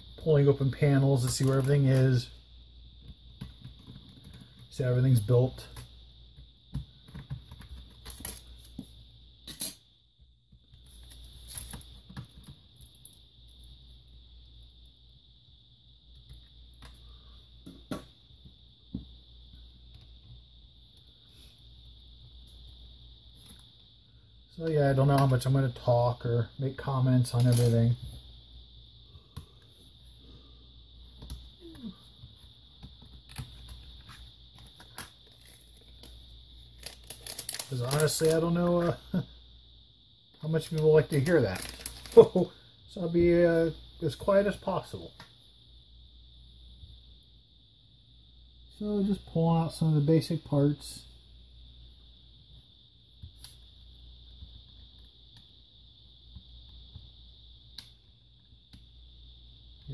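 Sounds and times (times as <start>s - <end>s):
faint high whine: 0.0s - 59.9s.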